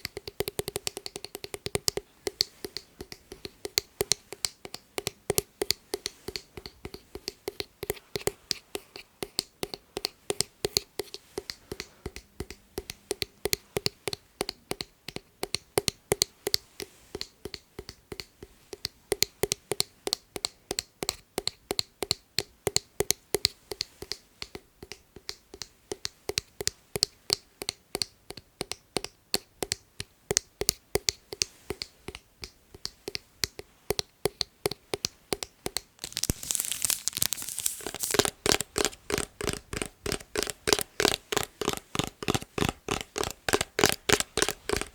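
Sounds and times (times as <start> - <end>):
finger tapping: 0.0 - 44.9.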